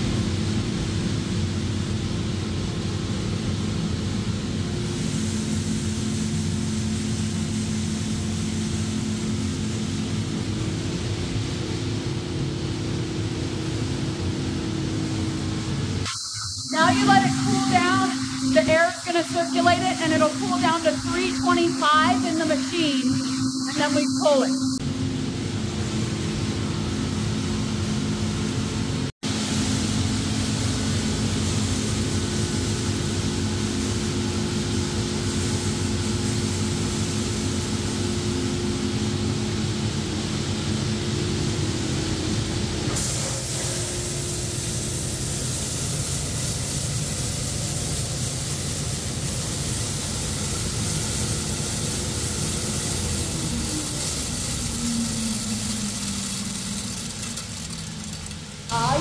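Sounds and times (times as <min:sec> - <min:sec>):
roasting machine motor hum: 0:00.0 - 0:59.0
hiss: 0:00.1 - 0:24.8, 0:29.2 - 0:59.0.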